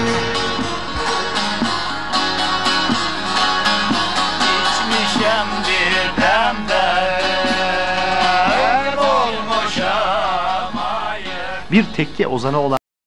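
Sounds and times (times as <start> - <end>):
plucked string instrument: 0.0 - 12.2.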